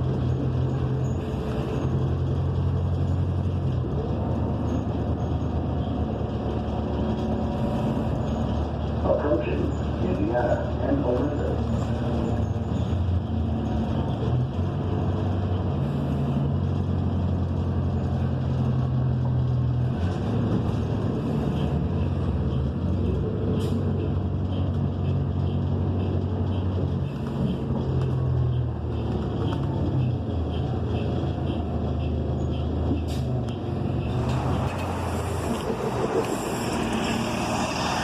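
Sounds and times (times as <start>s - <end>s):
bus engine droning: 0.0s - 38.0s.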